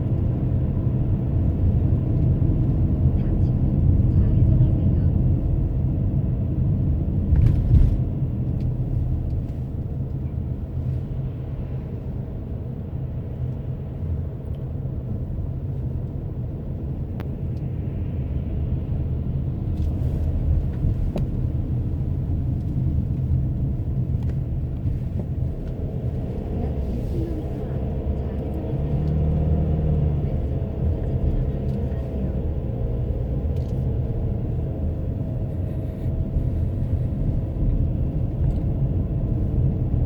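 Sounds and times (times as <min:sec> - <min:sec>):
car engine and tyre rumble: 0:00.0 - 0:40.0.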